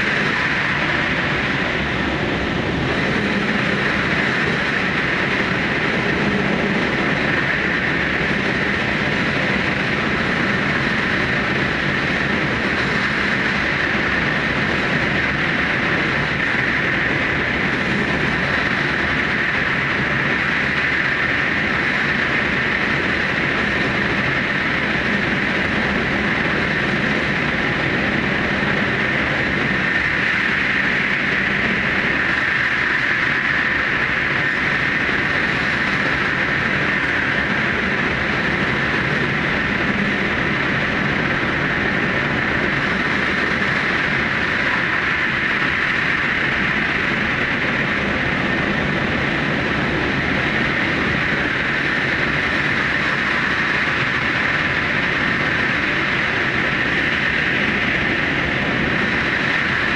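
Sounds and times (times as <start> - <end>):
train wheels running on rail: 0.0 - 59.9.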